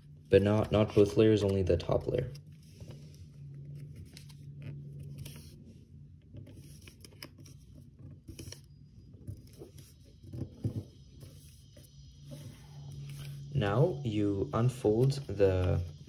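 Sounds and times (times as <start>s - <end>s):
faint low hum: 0.0s - 16.0s
paper rustling and folding: 0.2s - 5.7s, 6.3s - 13.4s, 14.6s - 16.0s.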